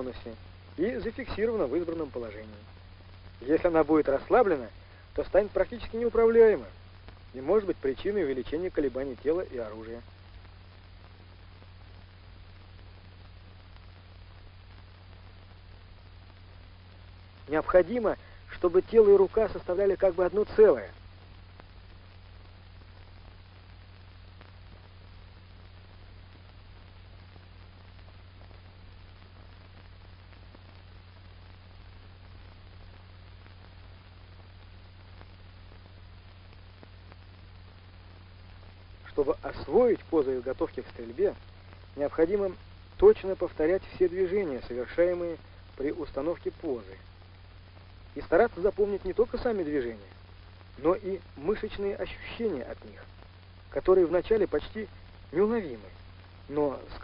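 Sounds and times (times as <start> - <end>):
film soundtrack hiss: 0.0 - 57.0
low steady hum: 0.0 - 57.0.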